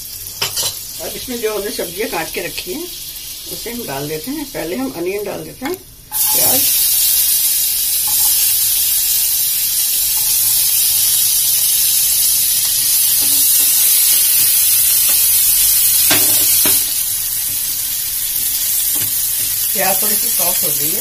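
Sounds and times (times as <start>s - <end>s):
onion sizzling in a pan: 0.0s - 21.0s.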